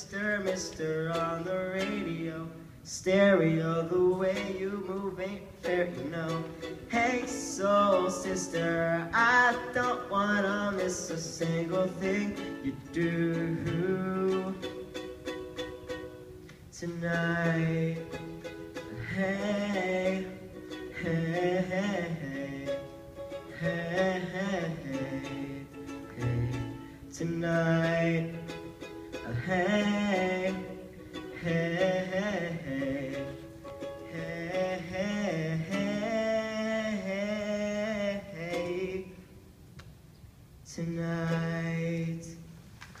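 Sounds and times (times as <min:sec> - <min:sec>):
young man singing: 0:00.0 - 0:15.4, 0:16.7 - 0:39.4, 0:40.6 - 0:42.6
strummed acoustic guitar: 0:00.0 - 0:39.2.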